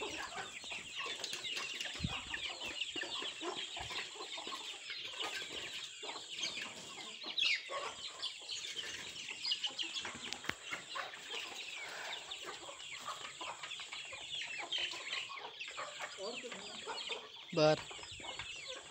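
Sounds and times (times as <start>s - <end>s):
chicks peeping and clucking: 0.0s - 18.9s.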